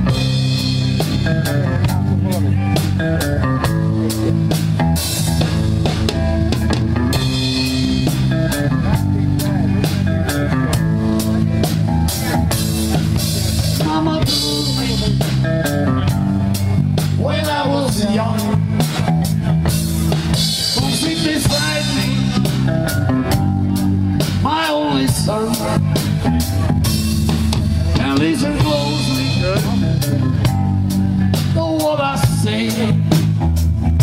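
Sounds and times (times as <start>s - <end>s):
bass guitar: 0.0s - 34.0s
drum kit beat: 0.0s - 34.0s
electric guitars: 0.0s - 34.0s.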